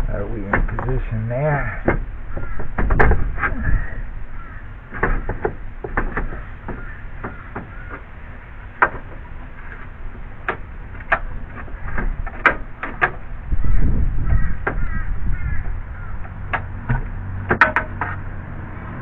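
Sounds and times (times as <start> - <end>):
radiator knocks and clunks: 0.0 - 18.5.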